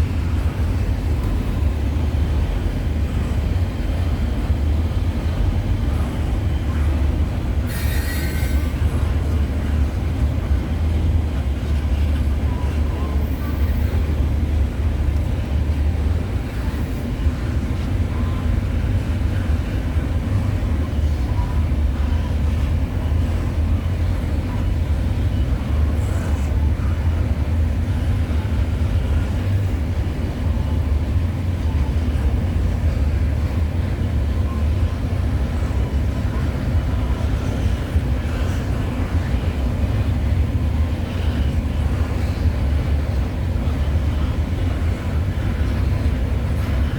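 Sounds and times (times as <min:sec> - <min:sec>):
distant freight train rumble: 0:00.0 - 0:46.9.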